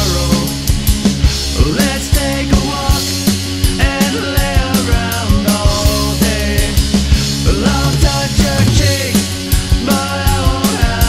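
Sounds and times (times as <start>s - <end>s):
drum kit driving beat: 0.0s - 11.0s
punk rock song: 0.0s - 11.0s.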